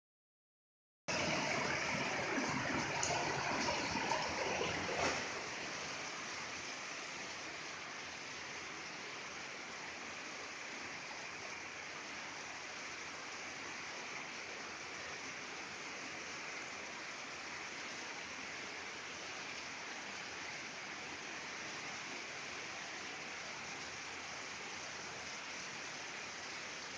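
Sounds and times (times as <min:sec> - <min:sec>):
heavy rain on metal roofs: 0:01.1 - 0:26.9.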